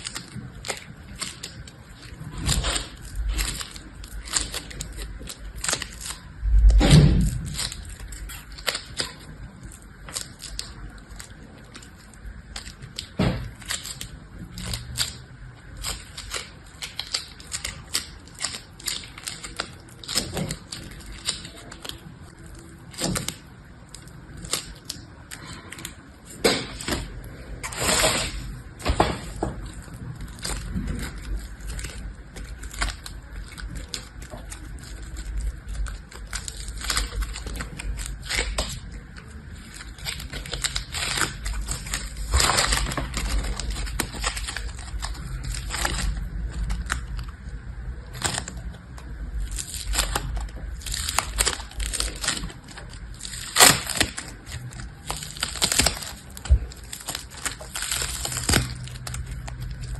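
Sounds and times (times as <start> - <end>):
objects crackling and clicking: 0.0 - 59.9.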